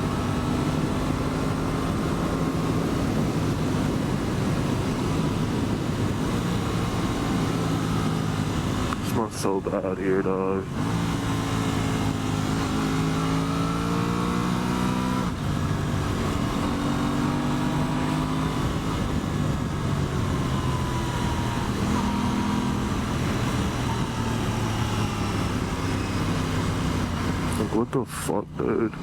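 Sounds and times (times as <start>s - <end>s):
wind rushing: 0.0s - 8.9s, 10.8s - 27.7s
motorcycle engine accelerating: 0.0s - 29.0s.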